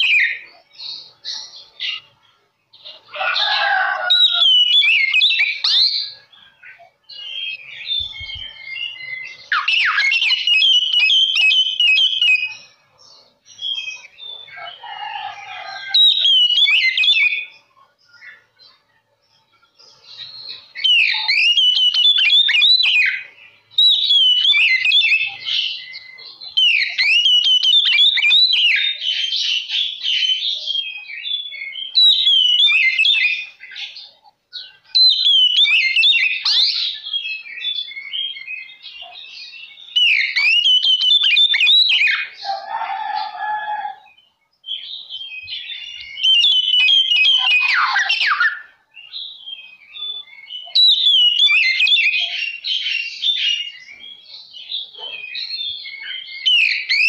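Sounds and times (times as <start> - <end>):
songbird whistles and trills: 0.0 - 2.1, 2.9 - 18.8, 19.5 - 57.0.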